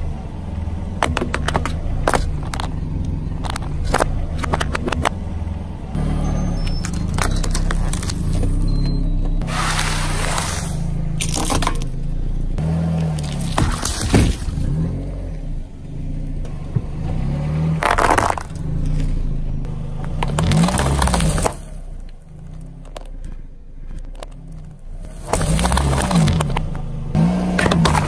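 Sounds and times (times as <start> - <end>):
items crunching under tyre: 0.0 - 12.0, 12.6 - 15.1, 16.4 - 28.0
car engine running: 0.0 - 28.0
tyre rolling on asphalt: 0.0 - 28.0.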